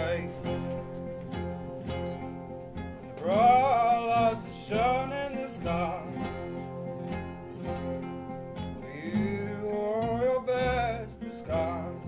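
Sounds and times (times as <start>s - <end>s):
picked acoustic guitar: 0.0s - 12.0s
sliding held melody line: 0.0s - 12.0s
upright double bass: 0.0s - 12.0s.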